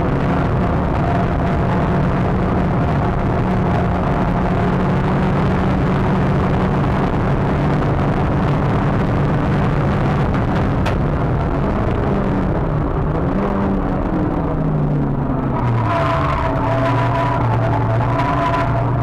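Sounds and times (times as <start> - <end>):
car engine running hard: 0.0 - 19.0
road and wind noise: 0.0 - 19.0.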